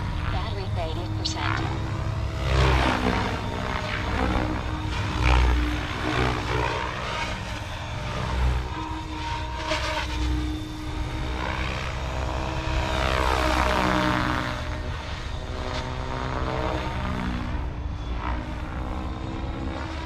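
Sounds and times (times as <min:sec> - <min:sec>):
rc helicopter rotor drone: 0:00.0 - 0:20.0.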